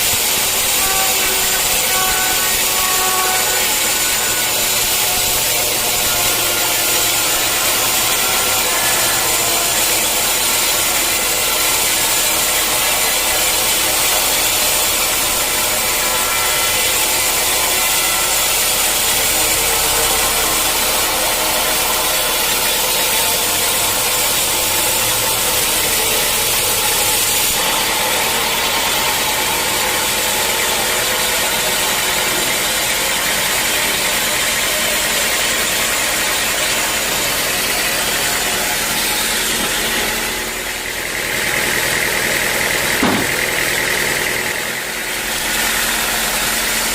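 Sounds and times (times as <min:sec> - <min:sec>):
sawmill saw cutting log: 0:00.0 - 0:46.9.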